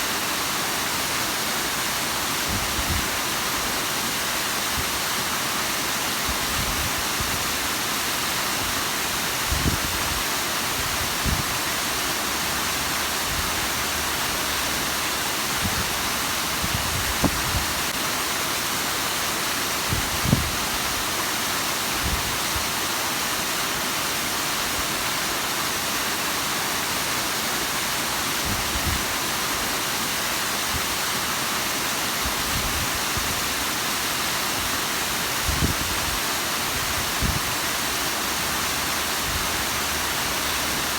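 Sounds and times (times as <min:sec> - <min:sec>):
waterfall rushing and splashing: 0:00.0 - 0:40.9.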